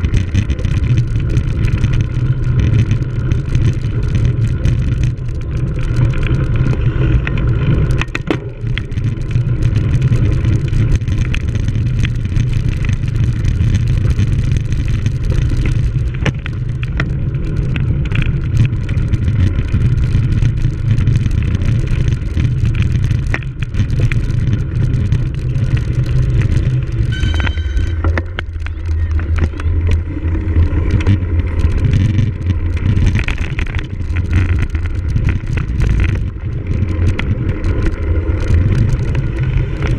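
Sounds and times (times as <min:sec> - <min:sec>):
bike knocks and rattles: 0:00.0 - 0:39.9
wind and riding noise: 0:00.0 - 0:39.9.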